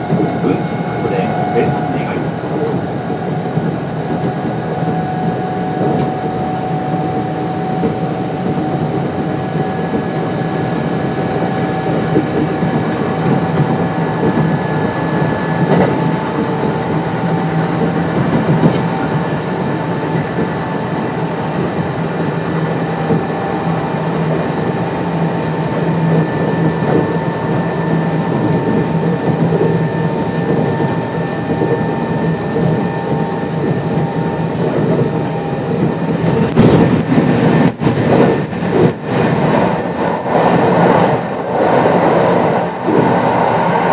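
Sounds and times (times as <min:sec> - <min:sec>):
rail joint clacks: 0:00.0 - 0:43.9
train wheels rumbling: 0:00.0 - 0:43.9.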